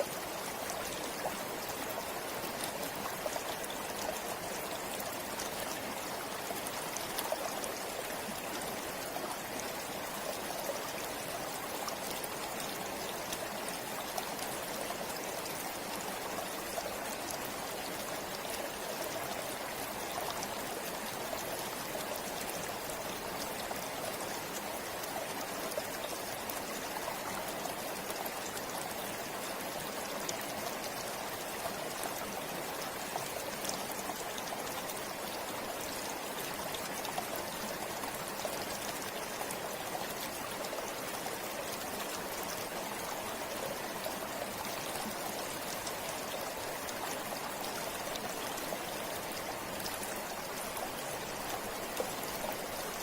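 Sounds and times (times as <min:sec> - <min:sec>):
stream flowing over stones: 0:00.0 - 0:53.0.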